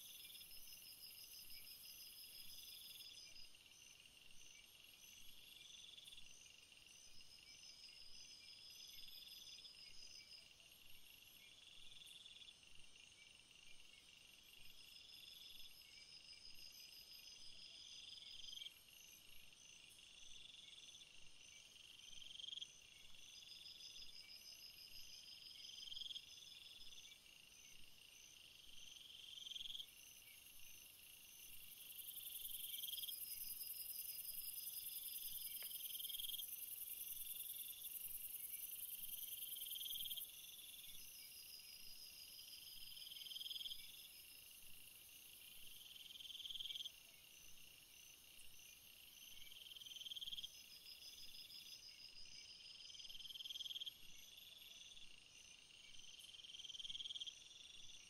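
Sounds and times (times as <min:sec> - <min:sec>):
crickets chirping trill: 0:00.0 - 0:58.0.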